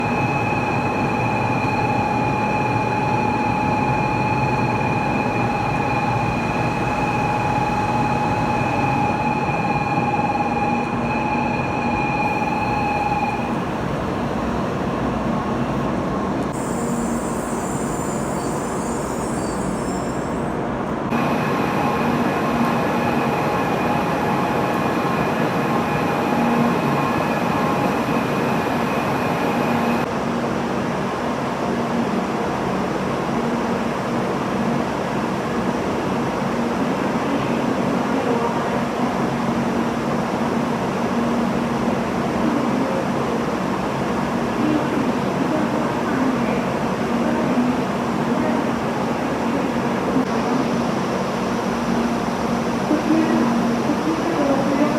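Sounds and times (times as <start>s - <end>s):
train mechanical hum: 0.0s - 54.9s.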